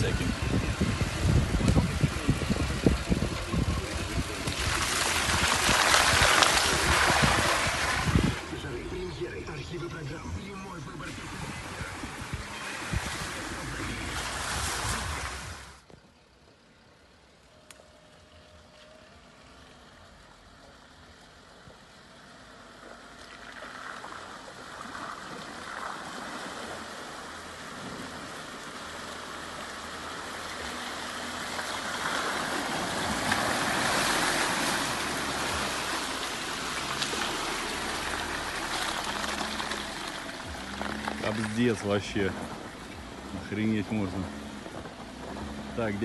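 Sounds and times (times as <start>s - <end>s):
water splashing against vehicle: 0.0s - 16.0s, 16.6s - 46.0s
car engine humming: 0.0s - 46.0s.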